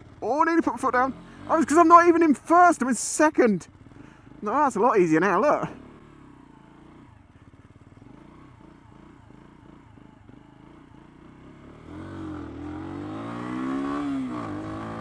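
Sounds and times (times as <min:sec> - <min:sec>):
motorcycle engine revving: 0:00.0 - 0:03.0, 0:03.6 - 0:15.0.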